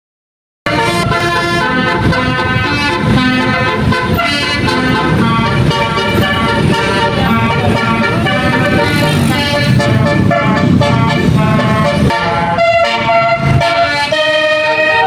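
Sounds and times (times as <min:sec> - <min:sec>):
air horn melody: 0:00.7 - 0:15.0.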